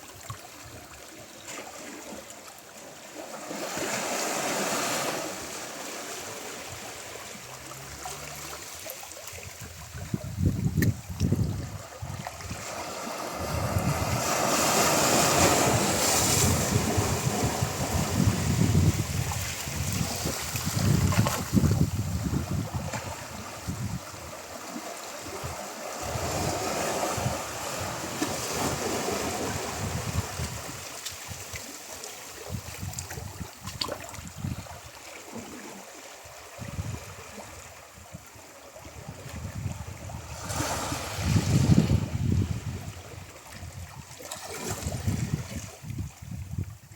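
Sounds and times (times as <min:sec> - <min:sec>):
ocean surf washing on shore: 0:03.3 - 0:32.8, 0:35.2 - 0:43.4.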